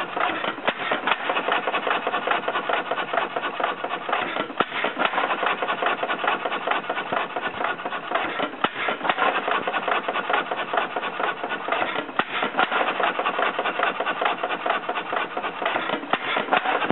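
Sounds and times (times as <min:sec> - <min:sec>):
engine knocks: 0:00.0 - 0:16.9
hit-and-miss engine clattering: 0:00.0 - 0:16.9.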